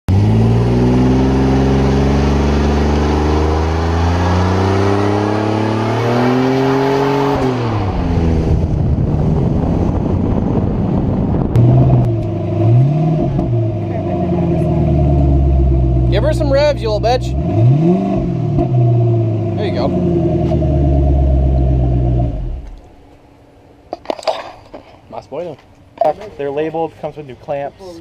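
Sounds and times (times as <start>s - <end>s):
car engine revving and idling: 0.1s - 23.0s.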